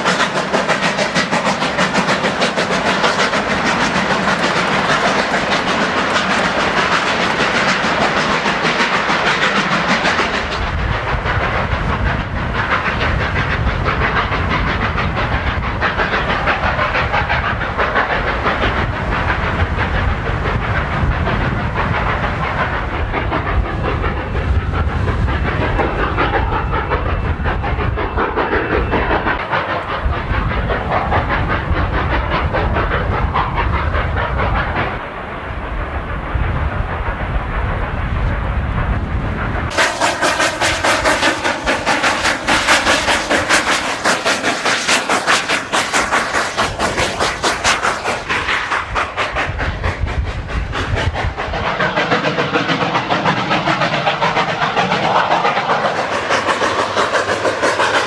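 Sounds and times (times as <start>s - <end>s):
steam hissing: 0.0s - 58.0s
train wheels clattering on rails: 0.0s - 58.0s.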